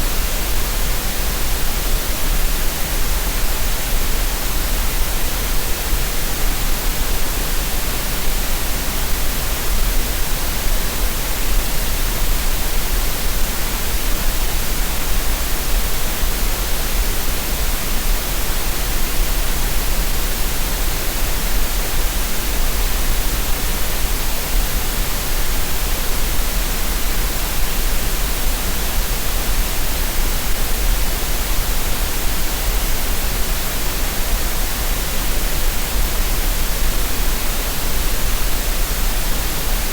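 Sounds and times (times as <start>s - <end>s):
steady synthetic noise hiss: 0.0s - 39.9s.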